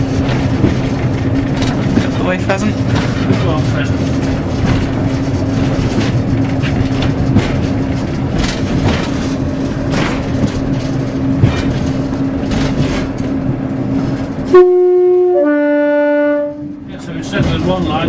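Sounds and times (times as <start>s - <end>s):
wheels clicking on track: 0.0s - 14.6s, 16.4s - 18.0s
train rumbling drone: 0.0s - 18.0s.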